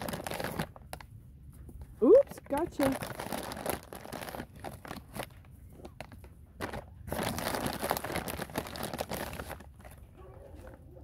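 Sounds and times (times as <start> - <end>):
millet rustling by hand: 0.0 - 11.0.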